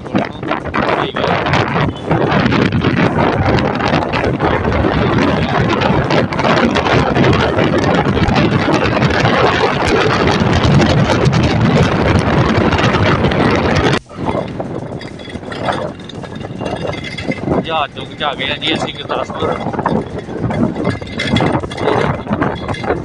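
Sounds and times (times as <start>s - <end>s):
road and traffic noise: 0.0s - 23.0s
wind buffeting microphone: 0.0s - 23.0s.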